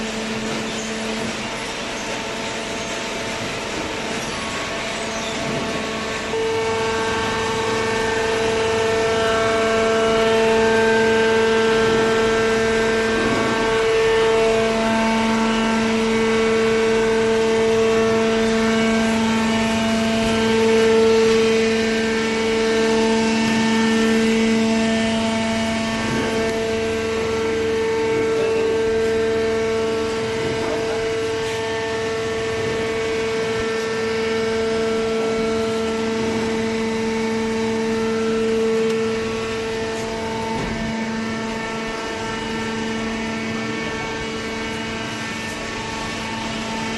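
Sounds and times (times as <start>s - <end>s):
machine hum: 0.0s - 46.9s.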